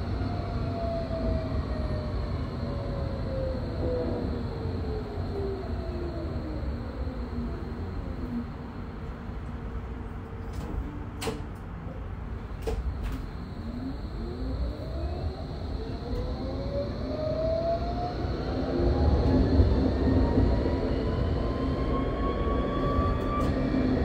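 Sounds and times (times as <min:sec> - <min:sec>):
tram drive whine rising: 0:00.0 - 0:24.0.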